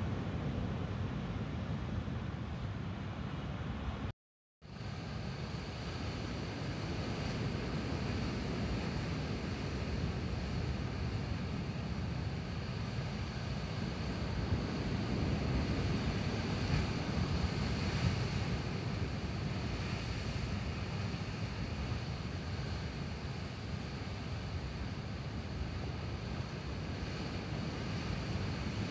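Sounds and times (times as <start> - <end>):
wind buffeting microphone: 5.4 - 28.9.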